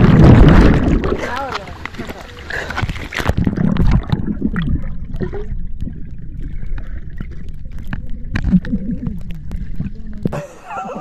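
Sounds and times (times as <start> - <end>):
underwater rumble of moving water: 0.0 - 11.0.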